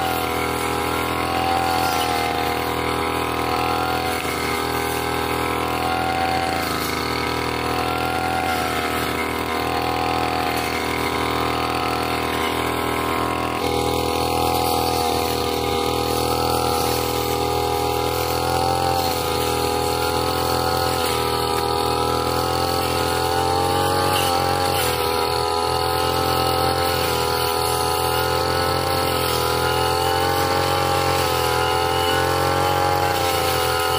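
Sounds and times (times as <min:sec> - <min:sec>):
blade cutting grass and saplings: 0:00.0 - 0:33.9
brush cutter engine running: 0:00.0 - 0:33.9.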